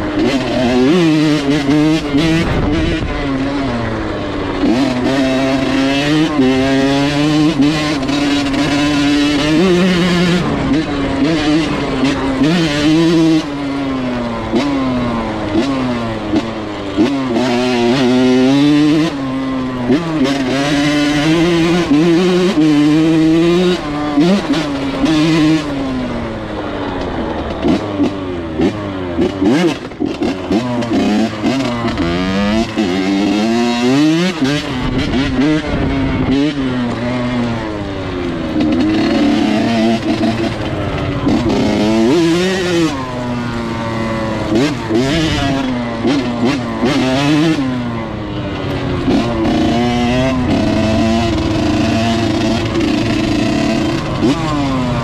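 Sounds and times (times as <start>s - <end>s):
off-road vehicle engine revving: 0.0s - 55.0s
second engine: 0.0s - 55.0s.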